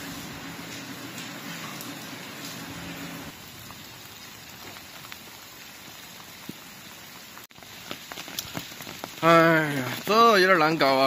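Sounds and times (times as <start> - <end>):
heavy rain on ground: 0.0 - 11.0.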